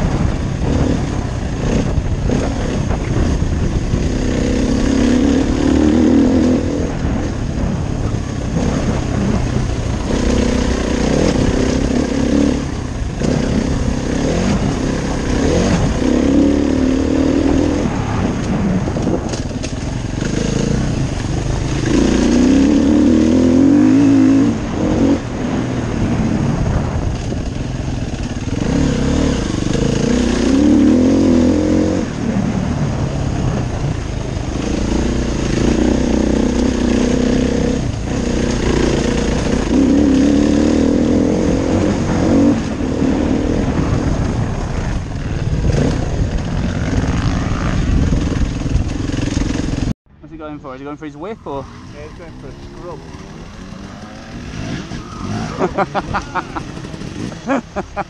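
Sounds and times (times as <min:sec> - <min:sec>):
dirt bike engine revving: 0:00.0 - 0:50.0, 0:50.6 - 0:58.0.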